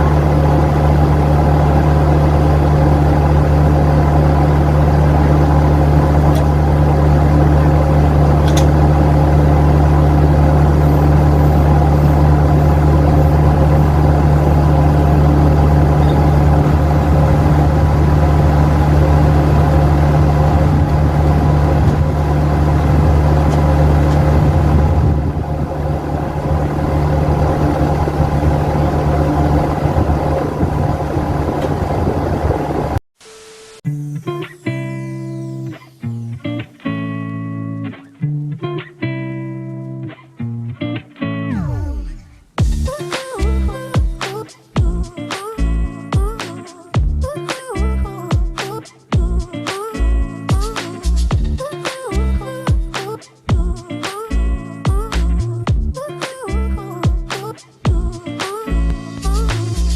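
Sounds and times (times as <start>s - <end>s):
vehicle engine humming: 0.0s - 33.0s, 42.6s - 48.4s, 49.2s - 59.9s.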